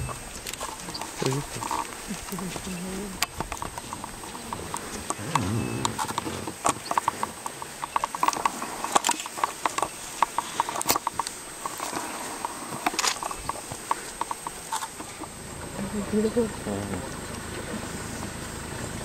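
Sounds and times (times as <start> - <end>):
rhinoceros tearing and crunching grass: 0.0 - 15.3.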